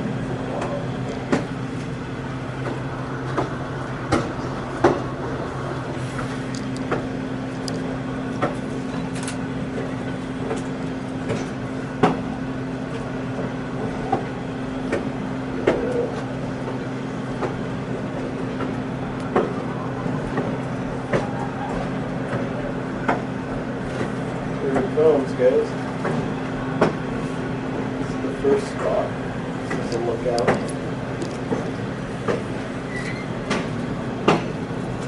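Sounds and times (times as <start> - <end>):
train coach low hum: 0.0 - 35.0
clicks and knocks from train car: 0.5 - 27.2, 28.3 - 35.0.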